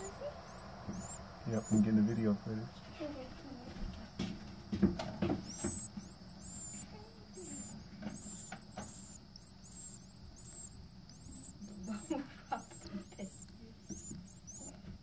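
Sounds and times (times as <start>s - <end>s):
nestlings squeaking chirps: 0.0s - 15.0s.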